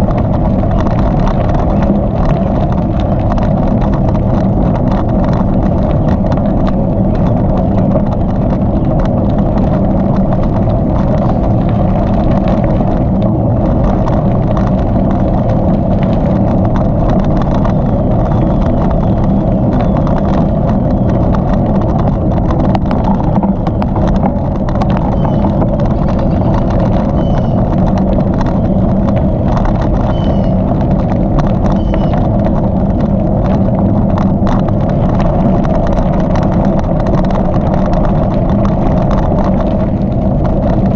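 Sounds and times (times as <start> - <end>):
tyres rolling on gravel: 0.0 - 40.9
wind over microphone: 0.0 - 40.9.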